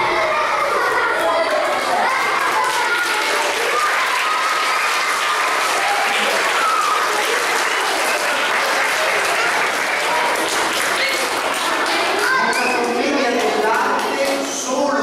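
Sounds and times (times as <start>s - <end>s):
audience applauding: 0.9s - 14.7s.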